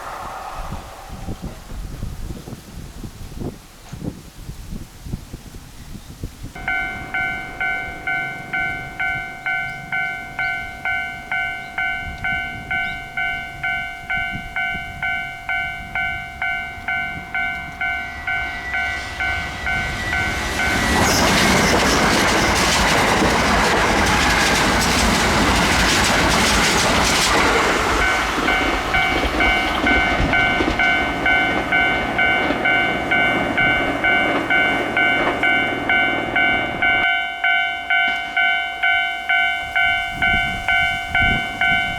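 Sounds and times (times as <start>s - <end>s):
train passing loudly: 0.0s - 3.9s, 6.5s - 41.9s
level-crossing alarm bell ringing: 6.6s - 41.9s.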